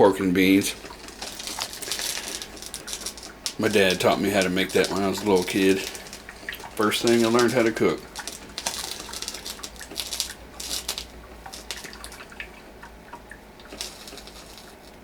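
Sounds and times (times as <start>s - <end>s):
coffee maker hissing spurts: 0.4s - 12.8s, 13.6s - 15.0s
small ticks: 0.8s - 15.0s.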